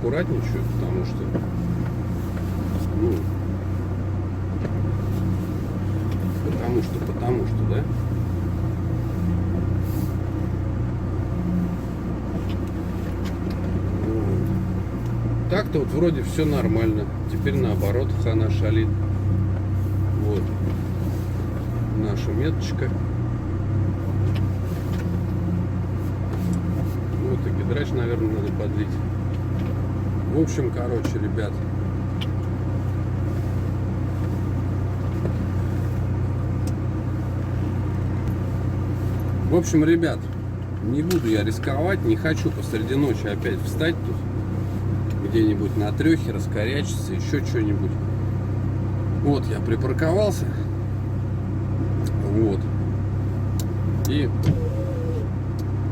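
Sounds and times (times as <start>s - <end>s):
van engine humming: 0.0s - 55.9s.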